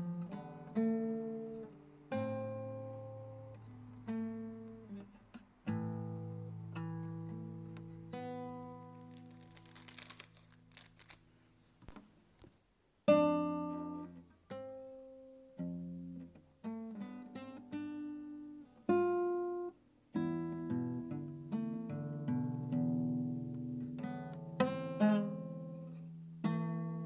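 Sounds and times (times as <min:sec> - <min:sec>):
classical guitar melody: 0:00.0 - 0:11.2, 0:13.0 - 0:27.0.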